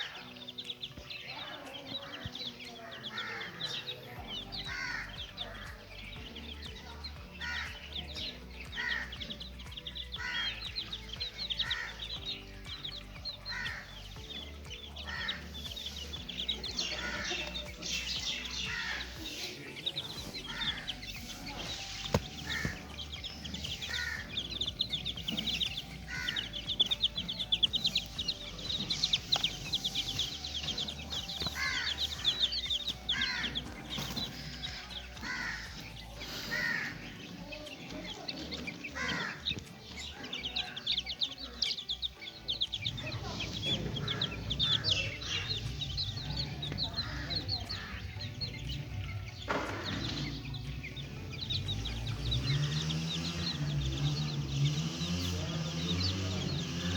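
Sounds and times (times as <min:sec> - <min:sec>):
bird call: 0:00.0 - 0:56.9
chicks peeping: 0:00.0 - 0:56.9
music with low beat: 0:00.0 - 0:56.9.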